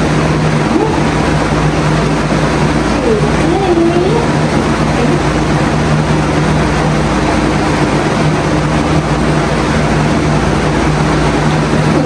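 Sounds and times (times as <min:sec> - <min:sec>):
low machine hum: 0:00.0 - 0:12.0
machine rushing noise: 0:00.0 - 0:12.0.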